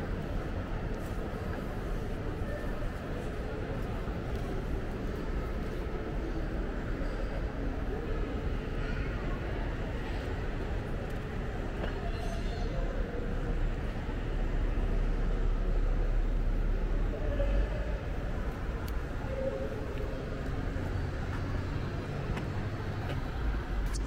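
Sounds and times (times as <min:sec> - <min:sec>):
steady road noise: 0:00.0 - 0:24.0.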